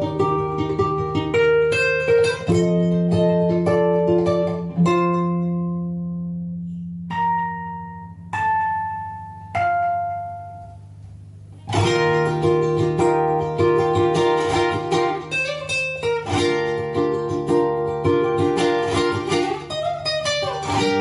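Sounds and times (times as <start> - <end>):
plucked acoustic string instrument: 0.0 - 21.0.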